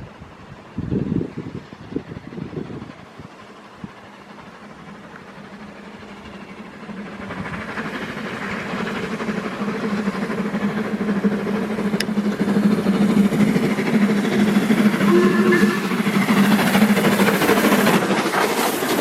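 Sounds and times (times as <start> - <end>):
steam locomotive under power: 0.0 - 19.0.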